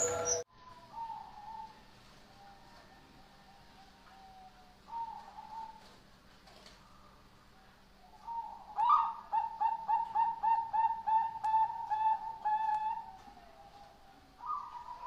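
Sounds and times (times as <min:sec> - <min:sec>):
dove cooing: 0:00.0 - 0:06.0, 0:08.2 - 0:15.0.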